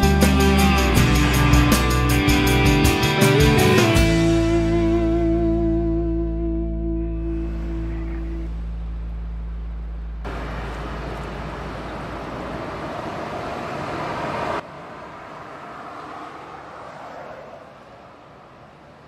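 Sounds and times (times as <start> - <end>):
steady traffic hum: 0.0 - 19.0
vehicle passing: 0.0 - 19.0.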